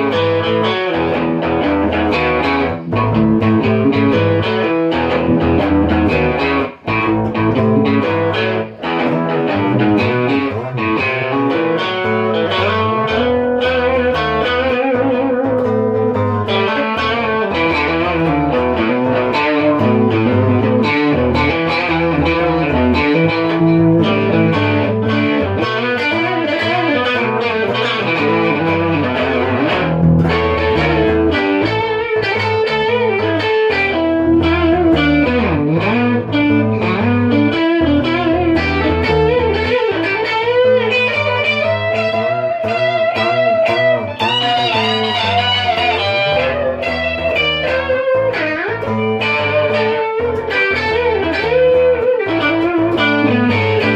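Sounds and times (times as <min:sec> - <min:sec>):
rock music with distorted guitar: 0:00.0 - 0:53.9.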